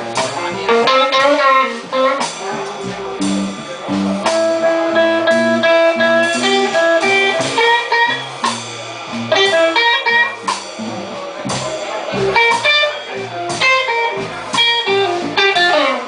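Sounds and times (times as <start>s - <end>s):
electric guitar blues solo: 0.0s - 16.0s
live band playing: 0.0s - 16.0s.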